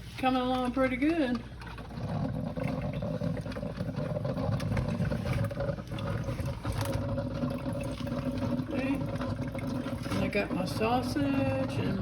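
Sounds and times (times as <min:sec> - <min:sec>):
drip coffee maker brewing: 0:00.0 - 0:12.0.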